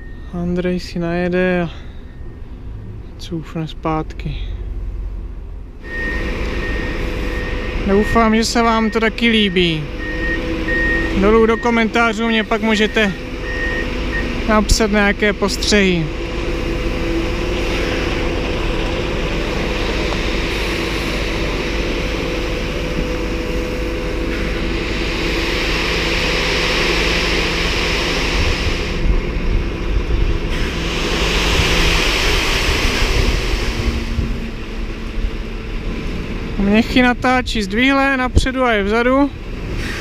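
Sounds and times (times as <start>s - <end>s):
diesel truck engine running: 0.0s - 40.0s
rushing noise: 4.6s - 40.0s.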